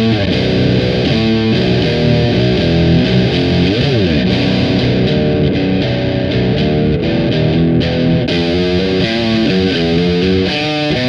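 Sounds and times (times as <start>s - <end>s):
distorted electric guitar riff: 0.0s - 11.0s.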